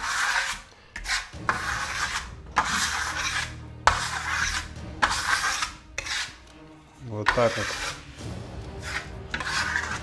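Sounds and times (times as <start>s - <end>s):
steel trowel scraping plaster: 0.0s - 6.5s, 7.1s - 10.0s.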